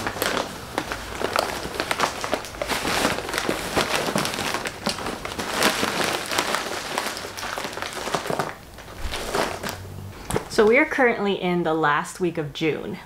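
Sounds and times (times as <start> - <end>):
bag and cardboard rustling: 0.0 - 10.7.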